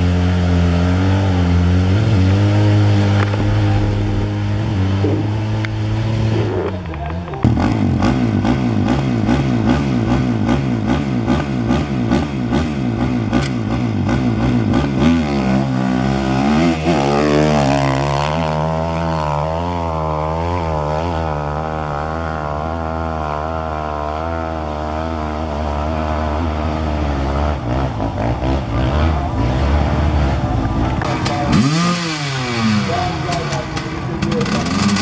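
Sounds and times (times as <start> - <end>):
motorcycle engine running hard: 0.0 - 35.0.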